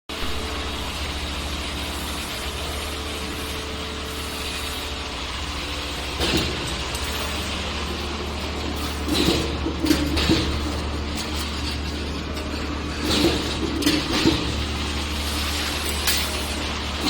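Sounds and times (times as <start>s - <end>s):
wire bending machine humming: 0.1s - 17.0s.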